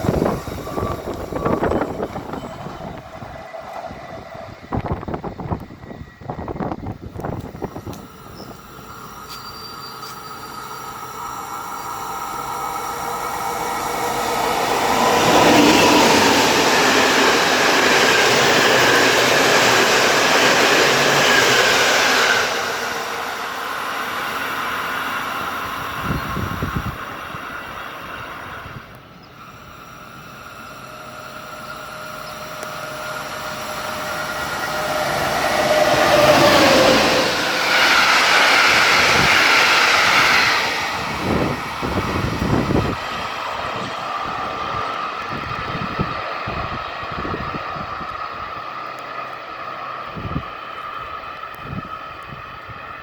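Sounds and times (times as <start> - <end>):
steady whine: 0.0 - 49.6
train passing on rails: 0.0 - 53.0.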